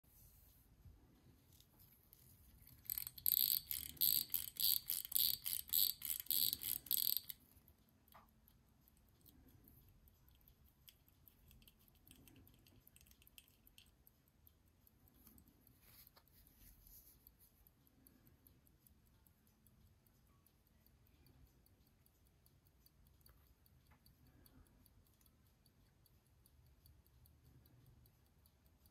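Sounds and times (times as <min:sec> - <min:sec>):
watch crown ratchet clicks: 0:02.5 - 0:28.9
watch ticking faintly: 0:02.5 - 0:28.9.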